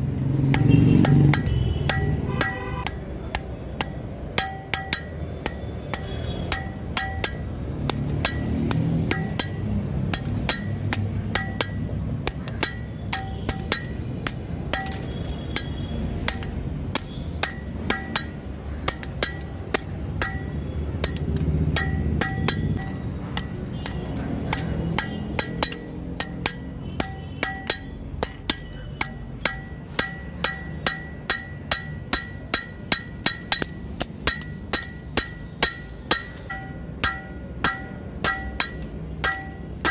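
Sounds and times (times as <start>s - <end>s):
hammer striking metal on anvil: 0.4s - 39.9s.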